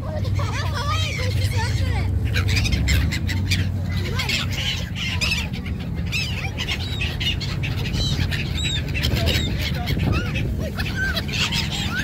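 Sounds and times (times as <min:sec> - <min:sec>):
gulls calling: 0:00.0 - 0:12.0
steady low rumble: 0:00.0 - 0:12.0.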